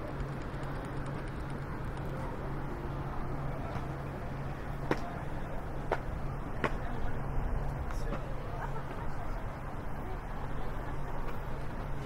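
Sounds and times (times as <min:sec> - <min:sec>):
low city hum: 0:00.0 - 0:12.0.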